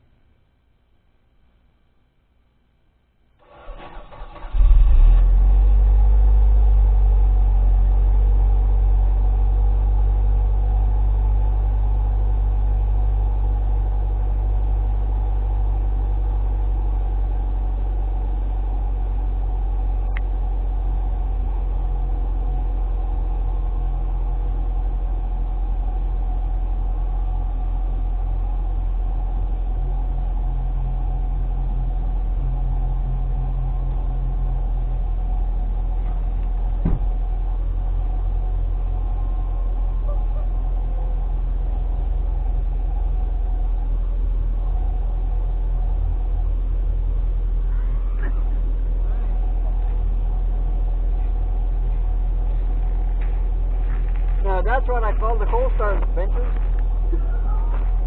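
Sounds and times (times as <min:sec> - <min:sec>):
car engine starting and idling: 0:03.4 - 0:58.0.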